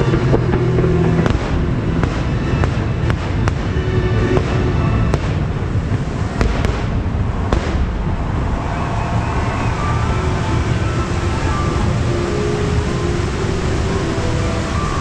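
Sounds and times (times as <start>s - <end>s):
fireworks bangs: 0.0s - 13.6s
low rumble: 0.0s - 15.0s.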